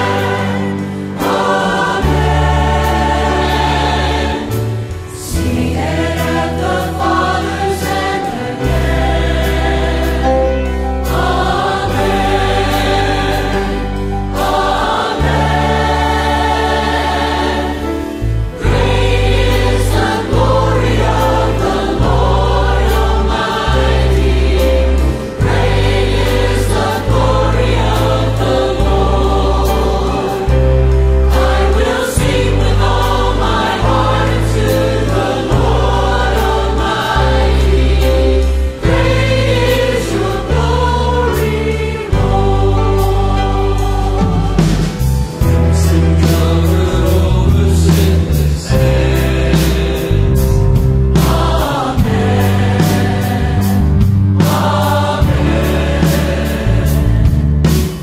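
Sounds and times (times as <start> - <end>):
deep bass notes: 0.0 - 58.0
drums: 0.0 - 58.0
mixed choir singing worship song: 0.0 - 58.0
piano: 0.0 - 58.0.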